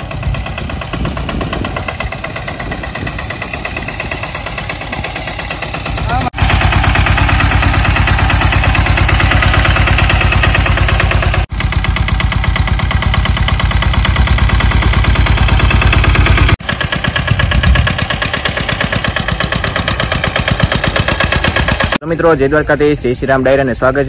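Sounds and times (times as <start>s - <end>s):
tractor engine under load: 0.0s - 23.6s.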